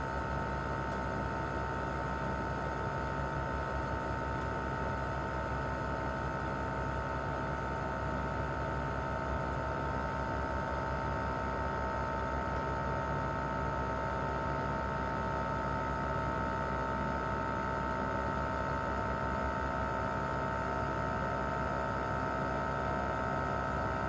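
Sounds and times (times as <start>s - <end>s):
air conditioner fan noise: 0.0s - 24.0s.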